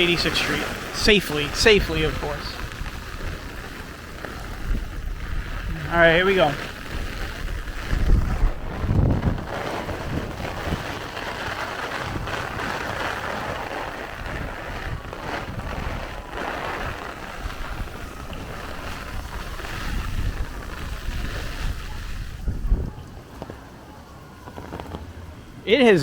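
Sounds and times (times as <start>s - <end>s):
heavy rain: 0.0s - 26.0s
wind gusts on microphone: 0.0s - 26.0s.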